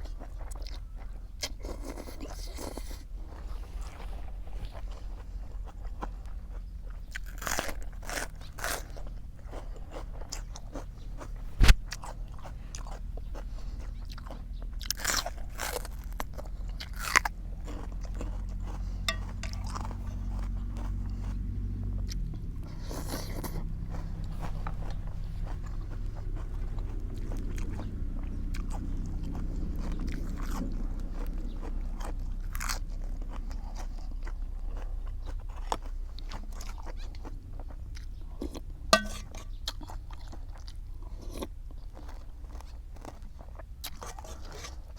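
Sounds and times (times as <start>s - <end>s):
chewing crisp food: 0.0s - 44.9s
steady low hum: 0.0s - 44.9s.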